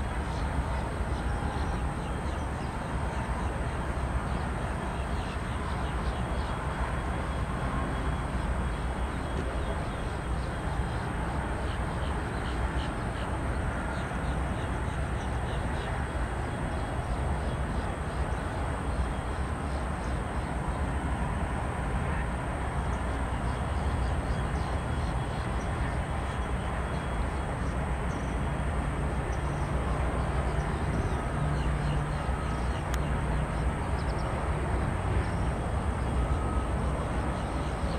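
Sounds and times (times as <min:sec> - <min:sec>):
distant aircraft and traffic rumble: 0:00.0 - 0:37.9.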